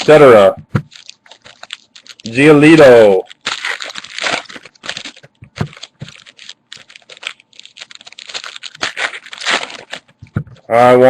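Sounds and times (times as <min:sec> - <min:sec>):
wrappers rustling: 0:00.0 - 0:11.0.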